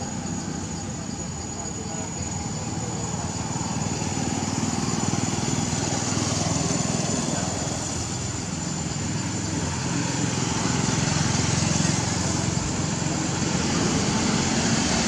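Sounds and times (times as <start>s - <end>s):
high-pitched whine: 0.0s - 15.0s
small engine running: 0.0s - 15.0s.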